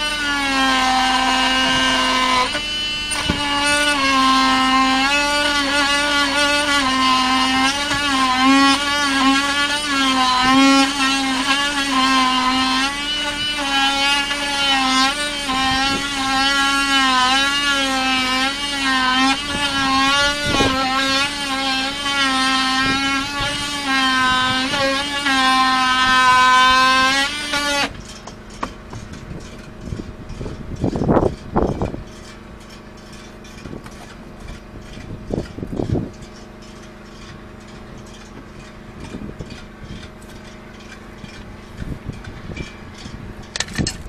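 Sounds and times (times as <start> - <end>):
power tool cutting wood: 0.0 - 44.0.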